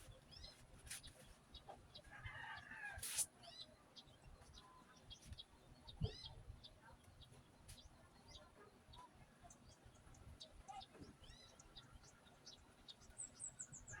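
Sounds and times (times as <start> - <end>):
small birds chirping: 0.0 - 2.7, 3.4 - 14.0.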